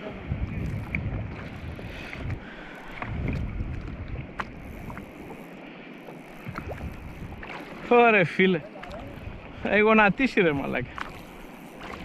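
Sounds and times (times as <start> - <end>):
wind buffeting microphone: 0.0 - 5.6, 6.2 - 12.0
water lapping against hull: 0.0 - 12.0.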